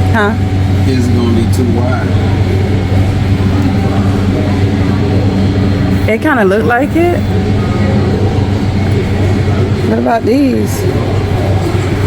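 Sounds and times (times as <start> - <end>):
low store hum: 0.0 - 12.0
faint voices: 0.1 - 12.0.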